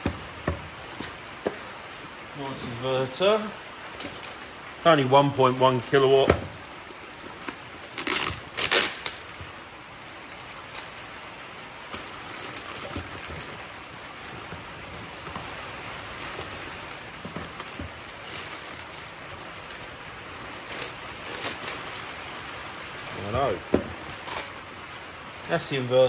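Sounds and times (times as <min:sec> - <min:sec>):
plastic bag crinkling: 0:03.6 - 0:26.0.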